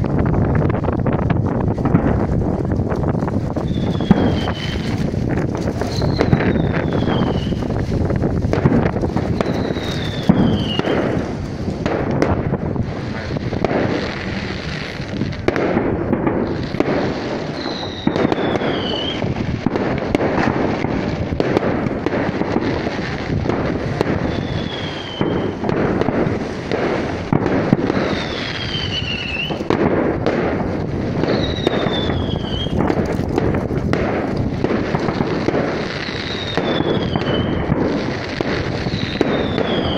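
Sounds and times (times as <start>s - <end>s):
firework bangs: 0.0s - 39.9s
fireworks crackling and popping: 0.0s - 39.9s
falling firework whistles: 3.4s - 39.9s.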